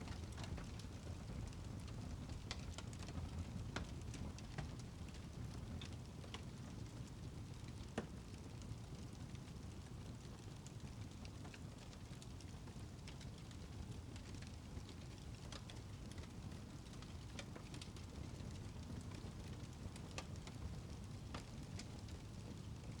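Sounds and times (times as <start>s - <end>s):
low rumble of flames: 0.0s - 23.0s.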